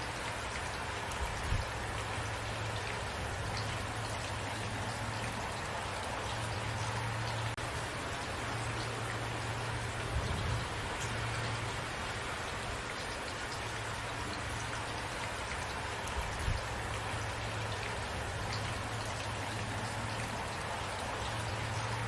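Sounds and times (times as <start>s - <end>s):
raindrops ticking on a surface: 0.0s - 22.0s
steady rain falling: 0.0s - 22.0s.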